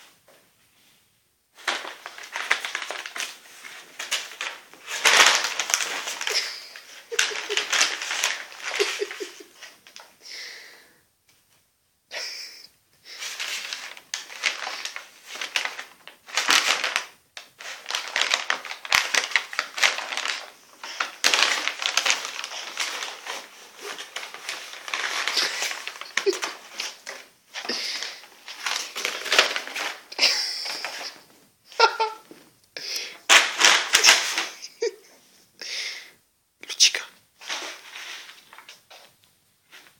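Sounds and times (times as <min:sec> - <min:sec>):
paper bag crinkling and rustling: 0:01.5 - 0:10.2, 0:13.1 - 0:32.6, 0:33.2 - 0:34.8, 0:37.4 - 0:39.9.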